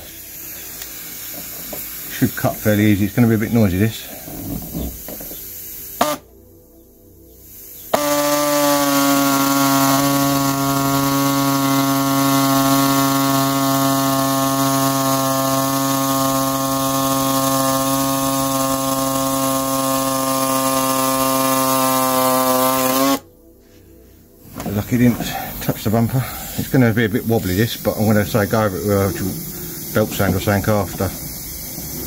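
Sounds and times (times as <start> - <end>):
air saw cutting plastic: 0.0 - 6.3, 7.6 - 23.3, 24.6 - 32.0.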